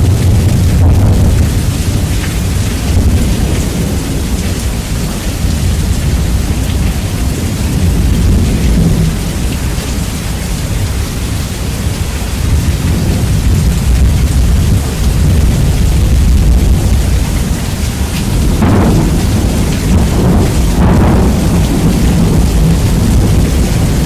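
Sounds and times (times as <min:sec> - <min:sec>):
thunder: 0:00.0 - 0:09.7, 0:12.4 - 0:24.0
steady rain: 0:00.0 - 0:24.0.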